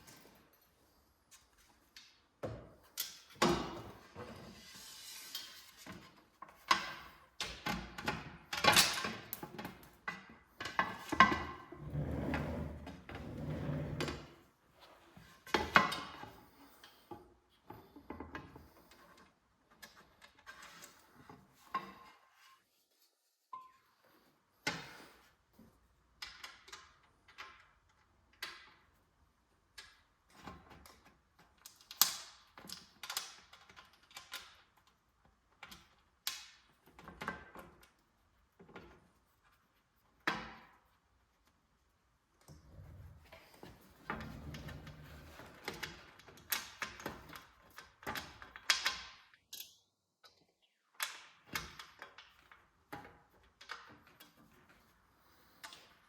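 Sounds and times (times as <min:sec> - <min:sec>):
clicks and knocks of hand work: 0:05.4 - 0:12.0, 0:15.0 - 0:22.6, 0:24.6 - 0:56.0.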